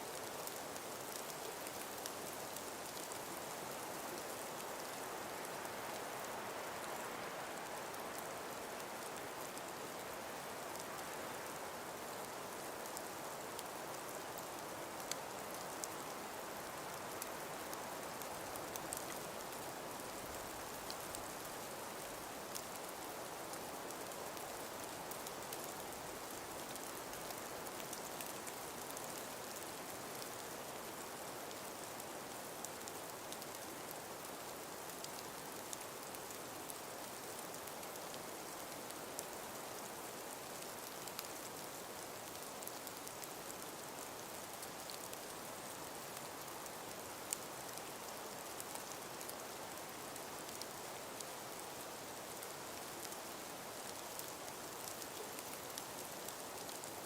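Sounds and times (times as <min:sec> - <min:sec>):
soft outdoor hiss: 0:00.0 - 0:57.0
faint light ticks: 0:00.1 - 0:57.0.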